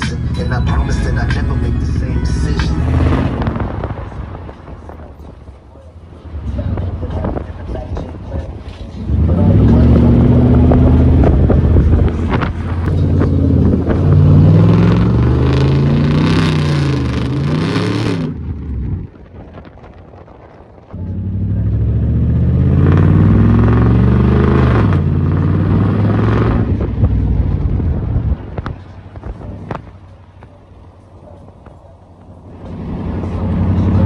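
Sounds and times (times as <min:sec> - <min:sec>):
truck engine accelerating through gears: 0:00.0 - 0:19.7, 0:20.8 - 0:34.0
tyre and wind noise: 0:02.6 - 0:33.2.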